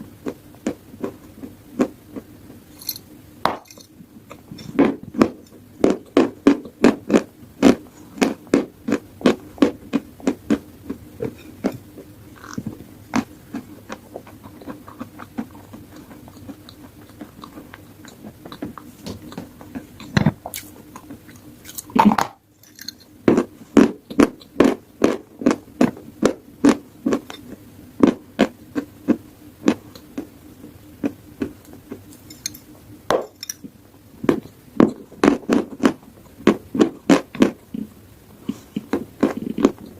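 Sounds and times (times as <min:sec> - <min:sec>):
crunchy chewing: 0:03.7 - 0:39.9.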